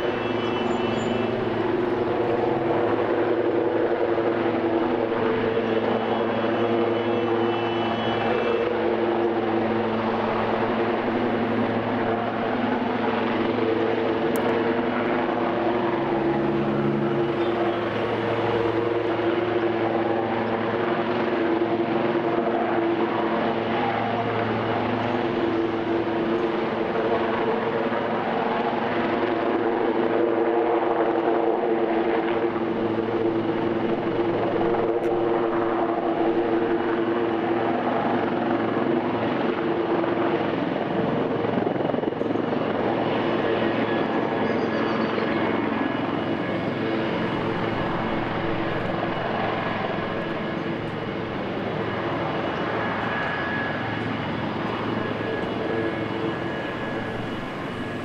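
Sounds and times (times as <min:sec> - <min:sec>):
helicopter rotors and engines: 0:00.0 - 0:58.0.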